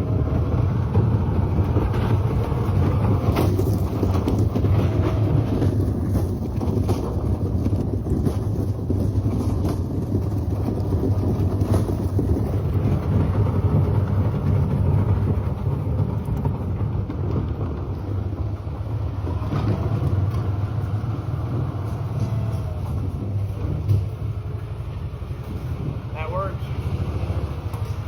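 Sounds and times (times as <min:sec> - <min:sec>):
knocks and rattles: 0:00.0 - 0:28.0
utility vehicle engine hum: 0:00.0 - 0:28.0.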